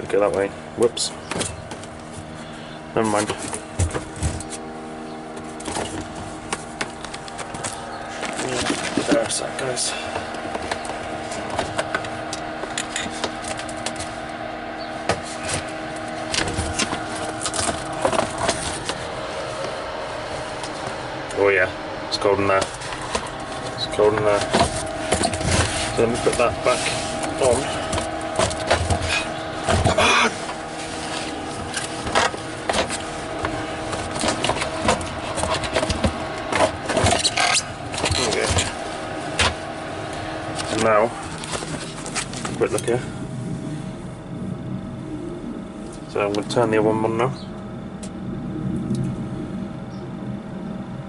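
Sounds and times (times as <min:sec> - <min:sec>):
handling knocks and rustles: 0:00.0 - 0:21.0, 0:22.2 - 0:43.0
fridge electrical hum: 0:00.0 - 0:51.0.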